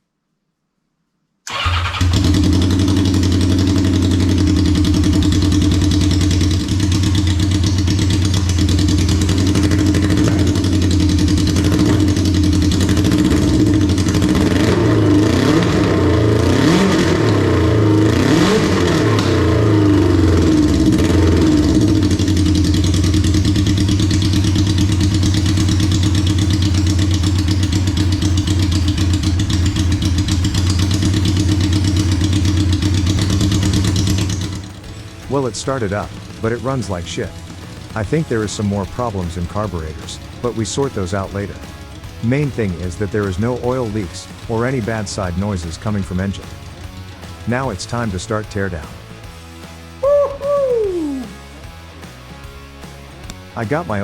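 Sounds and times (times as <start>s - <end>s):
motorcycle engine idling and revving: 1.5s - 54.0s.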